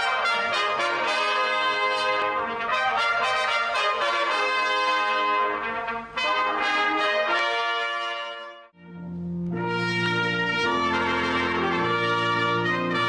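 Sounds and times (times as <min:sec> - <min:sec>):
trumpets playing held notes: 0:00.0 - 0:13.0.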